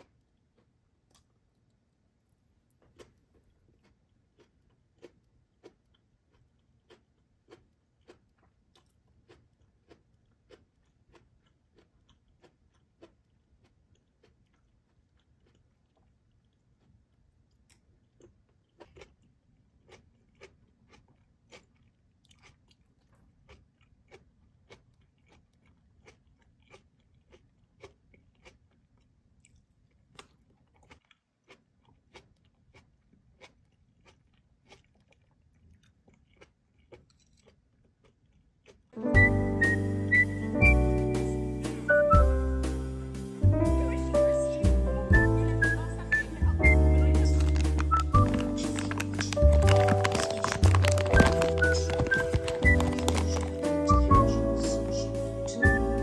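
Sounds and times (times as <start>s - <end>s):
person chewing food: 0.0s - 39.1s, 45.7s - 56.0s.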